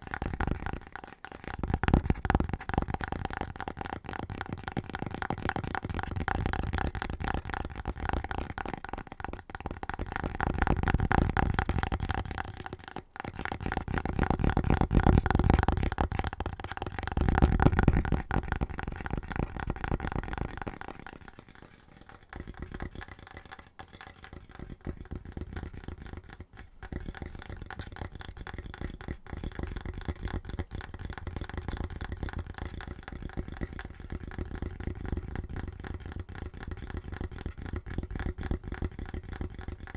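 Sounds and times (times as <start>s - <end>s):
hand tapping on objects: 0.0s - 39.9s.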